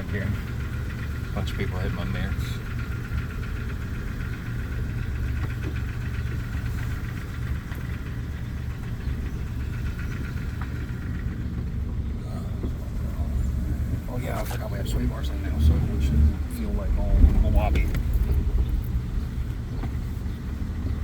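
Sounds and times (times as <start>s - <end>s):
car engine running: 0.0s - 21.0s
low road rumble: 0.0s - 21.0s.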